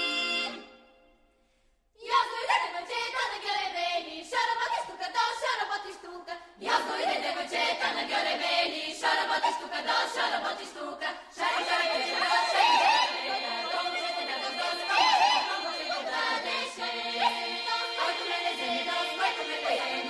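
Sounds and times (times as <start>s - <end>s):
women's choir singing a cappella: 2.0s - 20.0s.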